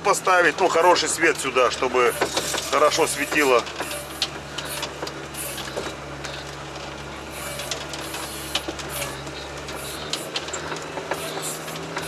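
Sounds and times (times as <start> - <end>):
vehicle engine drone: 0.0 - 12.0
clicks and rattles: 0.2 - 12.0.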